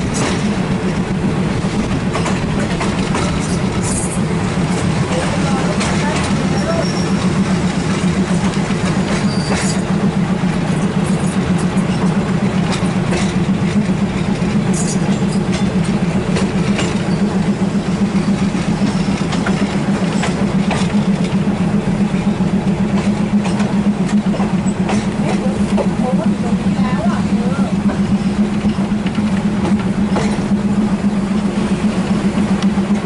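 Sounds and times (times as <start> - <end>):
train engine drone: 0.0 - 33.0
wheels clicking over rail joints: 0.0 - 33.0.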